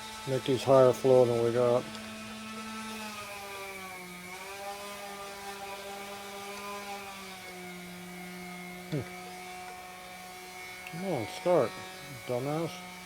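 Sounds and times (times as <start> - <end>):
power drill whining: 0.0 - 13.0.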